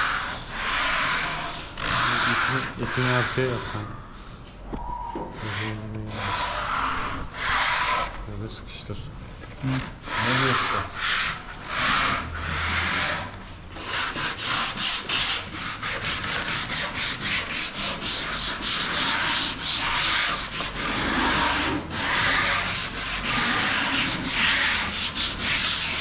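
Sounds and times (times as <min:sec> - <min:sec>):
sandpaper rubbing on wood: 0:00.0 - 0:03.9, 0:05.4 - 0:08.2, 0:09.6 - 0:26.0.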